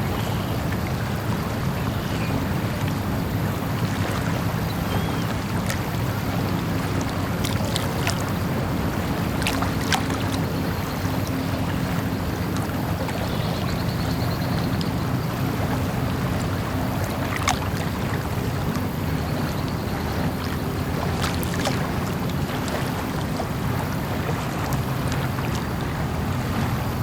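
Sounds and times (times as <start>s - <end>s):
even wash of noise: 0.0s - 27.0s
steady low hum: 0.0s - 27.0s.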